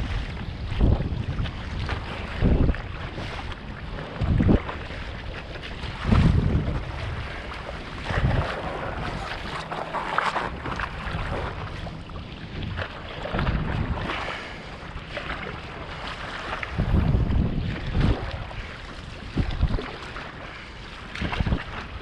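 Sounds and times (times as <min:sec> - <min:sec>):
water splashing and sloshing: 0:00.0 - 0:22.0
wind buffeting microphone: 0:00.0 - 0:22.0.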